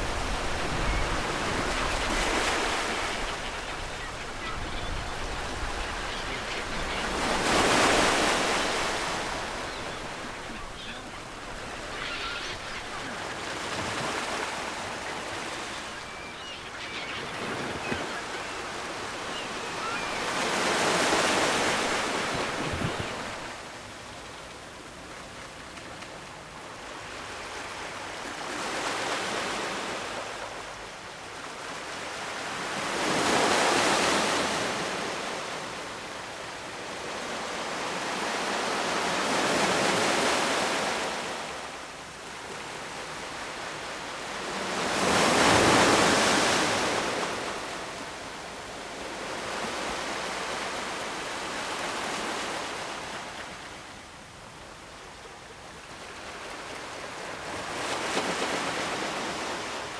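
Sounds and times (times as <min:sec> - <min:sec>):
ocean waves breaking on shore: 0:00.0 - 0:24.3, 0:26.6 - 0:54.1, 0:55.0 - 0:59.9.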